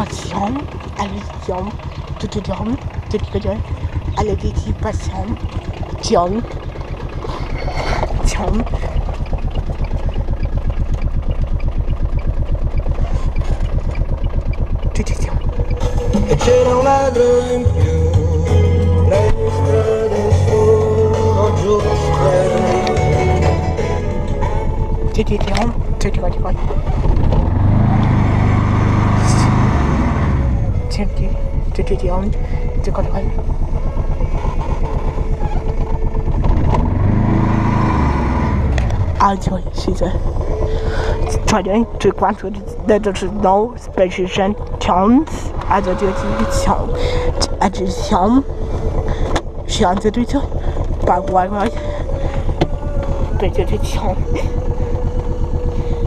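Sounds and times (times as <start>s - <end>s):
small car engine idling: 0.0s - 56.0s.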